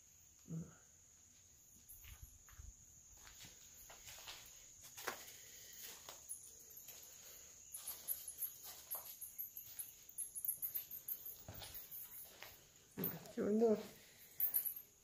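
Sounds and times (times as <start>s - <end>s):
high insect-like hum: 0.0s - 15.0s.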